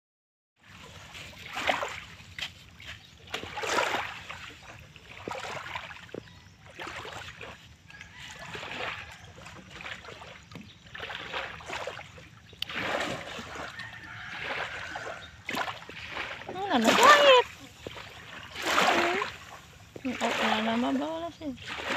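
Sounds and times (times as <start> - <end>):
seawater lapping: 0.6 - 21.9.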